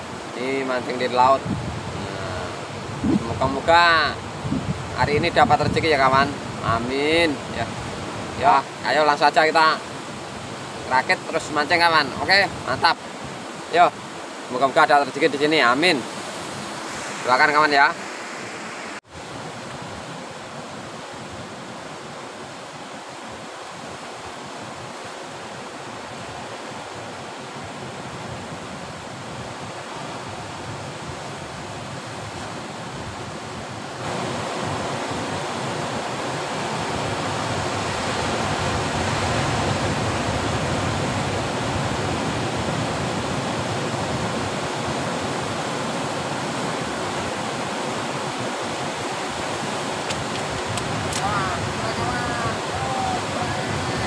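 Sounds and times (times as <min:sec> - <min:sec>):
surf washing over rocks: 0:00.0 - 0:54.0.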